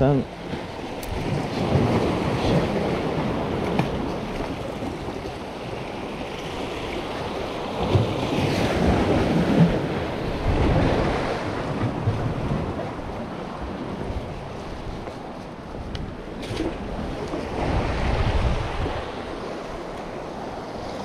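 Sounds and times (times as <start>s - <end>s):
sea waves washing in: 0.0s - 21.0s
wind on microphone: 0.5s - 21.0s.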